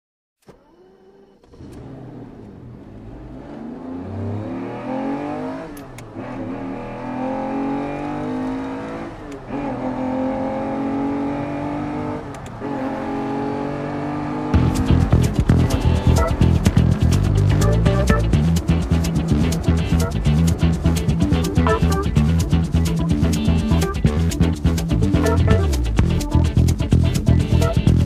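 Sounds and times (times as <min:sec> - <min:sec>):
racing engine accelerating through gears: 0:00.5 - 0:28.0.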